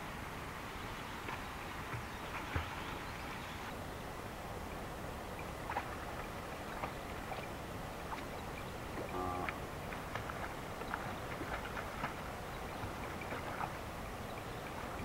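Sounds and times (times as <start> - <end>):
water lapping and splashing: 0.4 - 15.0.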